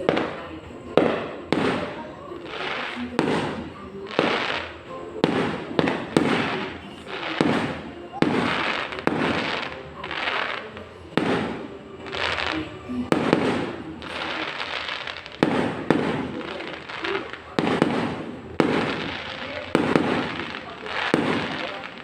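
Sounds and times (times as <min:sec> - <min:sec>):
fireworks bursting with crackling: 0:00.0 - 0:22.0.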